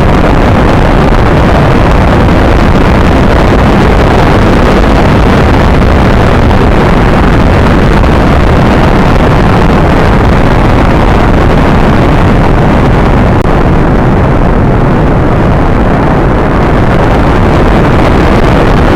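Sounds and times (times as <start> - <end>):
rocket engine roar: 0.0 - 18.9.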